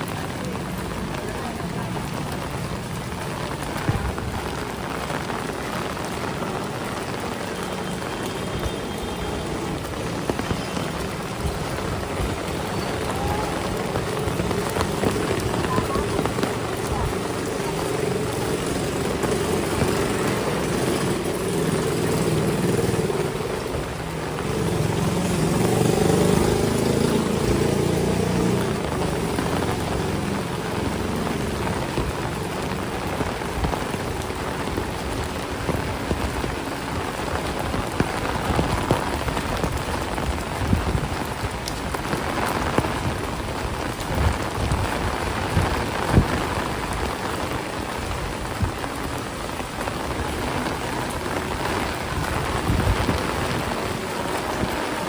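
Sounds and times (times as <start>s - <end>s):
heavy rain splashing: 0.0s - 55.0s.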